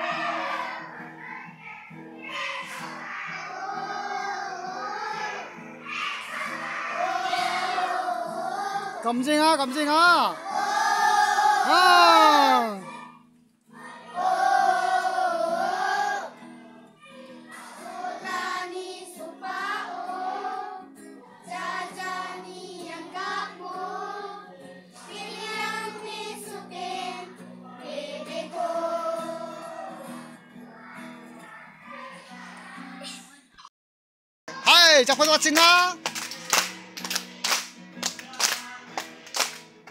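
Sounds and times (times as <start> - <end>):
children singing together: 0.0 - 9.0, 10.3 - 33.4.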